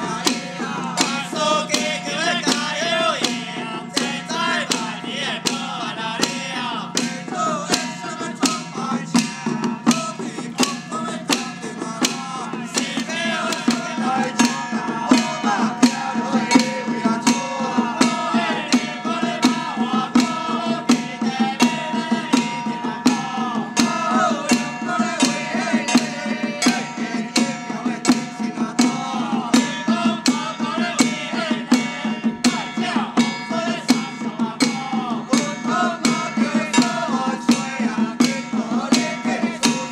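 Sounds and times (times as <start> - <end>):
handheld drums beating: 0.0 - 39.9
men chanting: 0.0 - 39.9.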